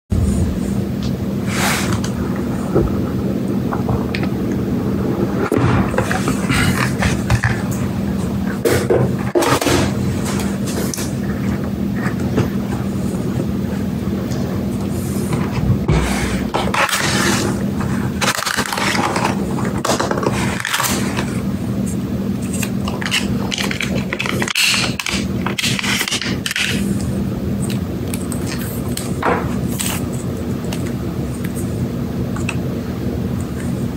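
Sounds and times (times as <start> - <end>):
steady low hum: 0.1 - 33.9.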